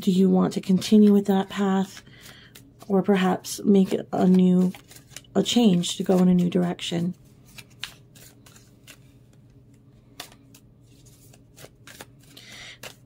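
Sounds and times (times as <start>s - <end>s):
cards clicking and rustling: 0.8s - 13.0s.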